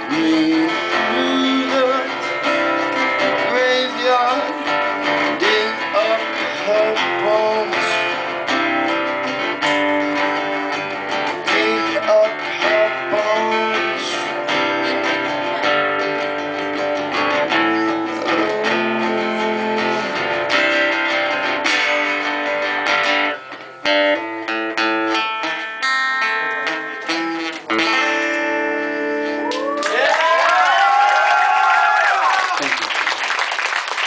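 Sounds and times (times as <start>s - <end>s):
acoustic guitar strumming: 0.0s - 29.5s.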